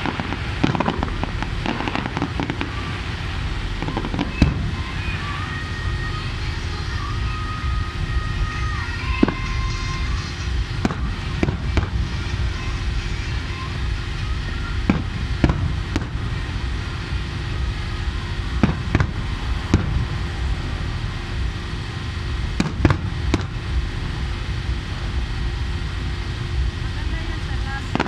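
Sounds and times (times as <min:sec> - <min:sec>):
fireworks bursting with sharp bangs: 0:00.0 - 0:28.0
steady low rumble: 0:00.0 - 0:28.0.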